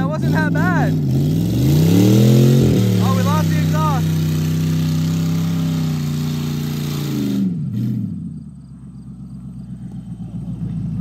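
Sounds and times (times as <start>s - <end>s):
pickup truck engine revving: 0.0s - 11.0s.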